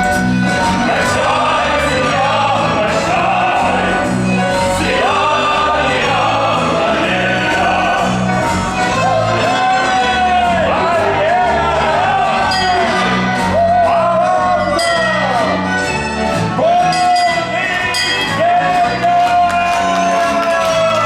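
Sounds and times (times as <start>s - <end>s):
orchestra playing: 0.0s - 21.0s
voices singing together: 0.4s - 15.6s, 16.6s - 21.0s.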